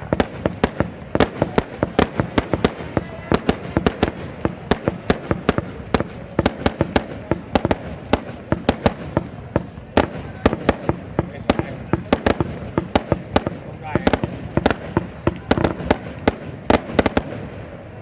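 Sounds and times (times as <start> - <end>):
fireworks banging: 0.0 - 18.0.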